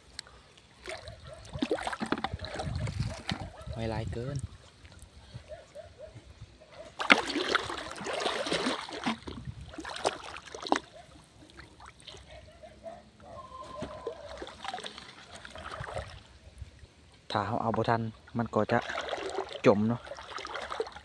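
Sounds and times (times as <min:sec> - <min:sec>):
pond water splashing and sloshing: 0:00.0 - 0:21.0.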